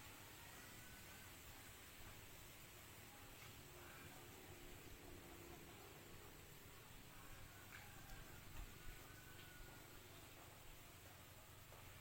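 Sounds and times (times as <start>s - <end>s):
faint wind hiss: 0.0s - 12.0s.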